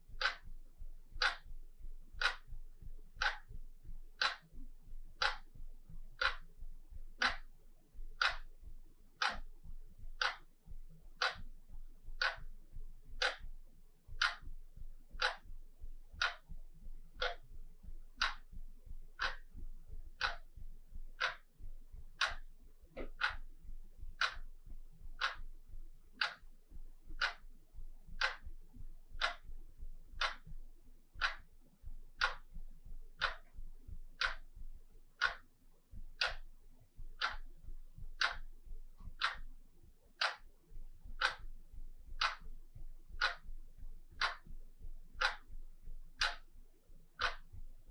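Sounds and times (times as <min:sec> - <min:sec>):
wall clock ticking: 0:00.0 - 0:47.9.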